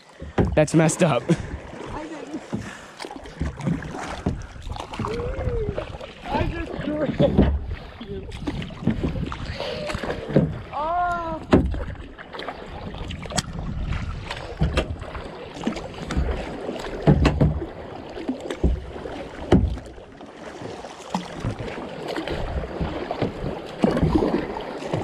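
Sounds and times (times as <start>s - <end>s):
kayak paddle strokes in water: 0.0s - 25.0s.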